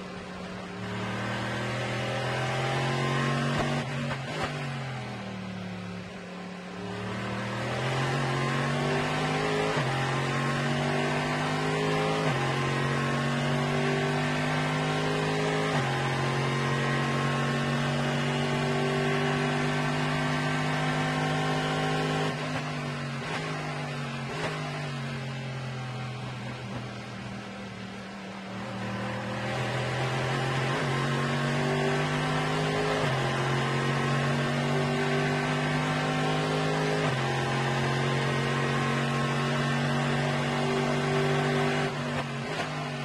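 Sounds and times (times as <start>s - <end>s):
race car engine accelerating: 0.7s - 5.3s, 6.8s - 27.1s, 28.5s - 43.0s.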